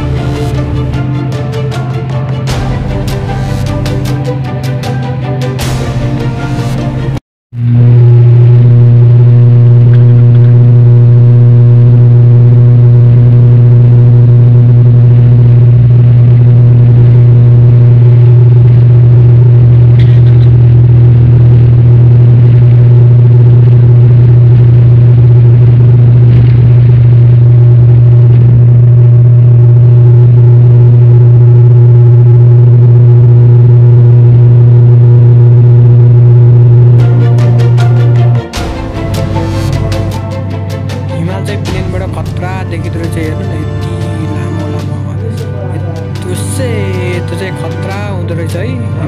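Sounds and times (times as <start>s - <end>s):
airliner engines droning in cabin: 7.6s - 49.0s.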